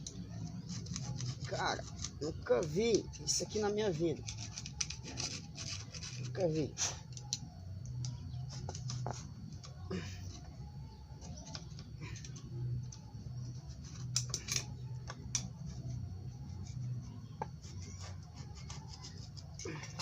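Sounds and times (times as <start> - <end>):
scratching and clicks on engine parts: 0.0 - 20.0
steady low hum: 0.0 - 20.0.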